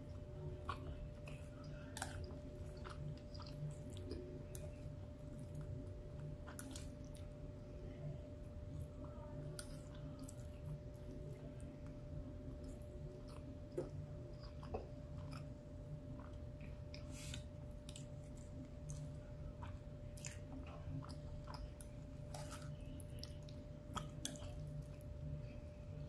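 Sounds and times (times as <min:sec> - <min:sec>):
person chewing food: 0:00.0 - 0:25.6.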